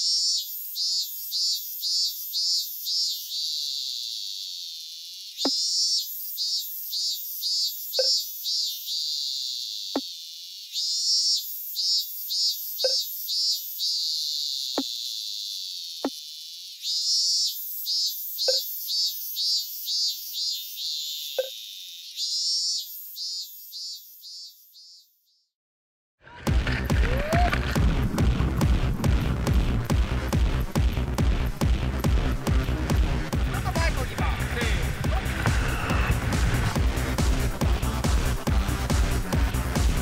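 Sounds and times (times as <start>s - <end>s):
cicada buzzing: 0.0s - 25.3s, 27.1s - 40.0s.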